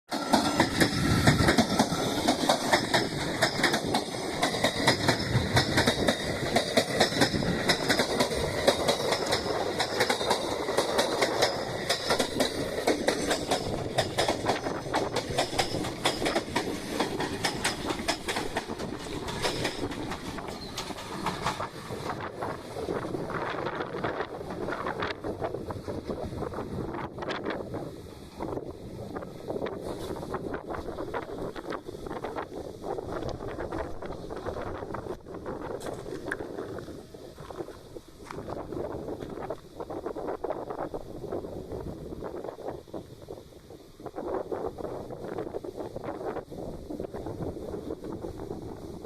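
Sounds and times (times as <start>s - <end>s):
train wheels clicking over rail joints: 0.1s - 40.7s
train rolling rumble: 0.1s - 49.0s.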